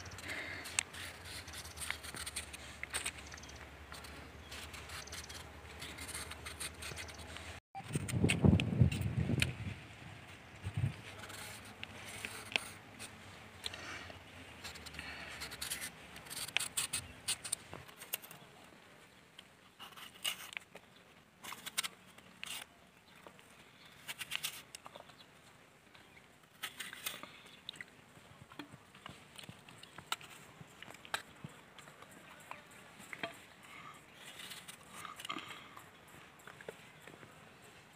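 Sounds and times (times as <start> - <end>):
knife peeling and slicing fruit: 0.0 - 9.6, 10.8 - 18.6, 19.7 - 22.8, 23.8 - 25.2, 26.5 - 27.9, 28.6 - 35.7.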